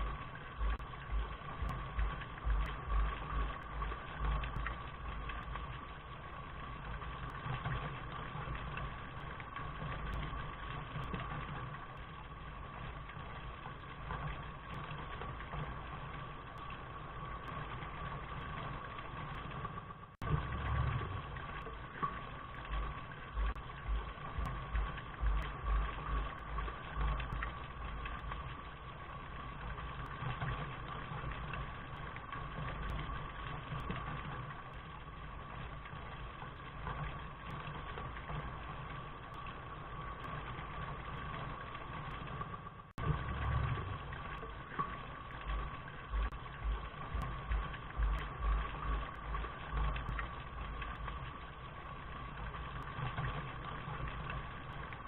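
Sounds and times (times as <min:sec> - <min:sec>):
low fluttering rumble: 0:00.0 - 0:55.0
steady rain hiss: 0:00.0 - 0:55.0.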